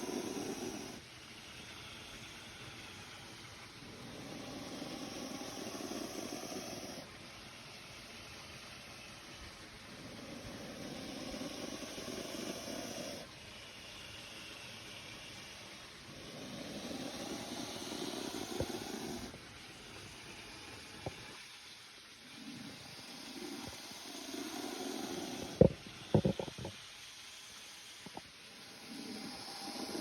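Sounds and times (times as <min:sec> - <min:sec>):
snake hissing: 0:00.0 - 0:07.2, 0:09.8 - 0:30.0.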